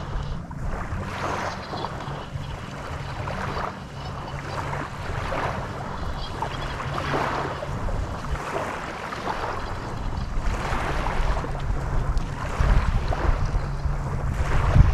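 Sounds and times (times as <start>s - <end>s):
lapping waves: 0.0s - 14.9s
low steady hum: 0.0s - 14.9s
wind: 0.0s - 14.9s.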